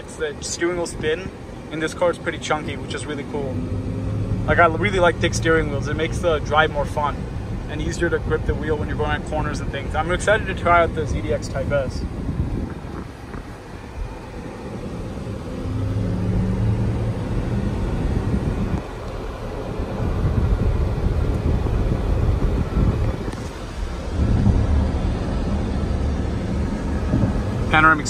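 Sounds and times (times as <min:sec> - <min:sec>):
road and wind noise in car: 0:00.0 - 0:28.0.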